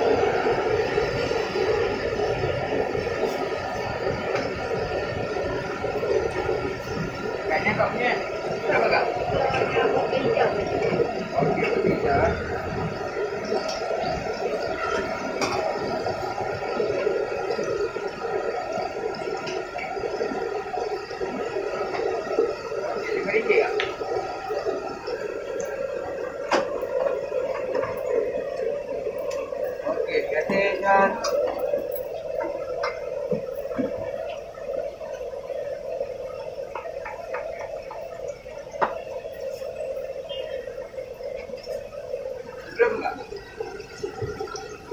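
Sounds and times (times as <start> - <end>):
oil sizzling while deep-frying: 0.0 - 44.9
steady hum: 0.0 - 44.9.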